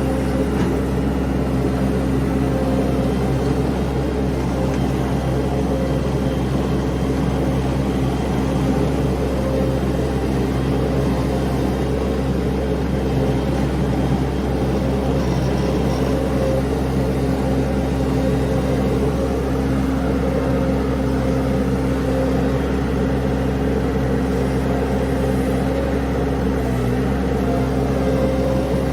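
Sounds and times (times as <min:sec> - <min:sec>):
small engine running steadily: 0:00.0 - 0:28.9.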